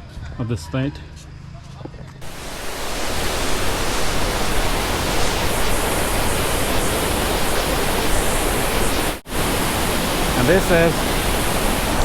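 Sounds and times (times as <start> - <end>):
waterfall rushing: 2.2 - 12.0.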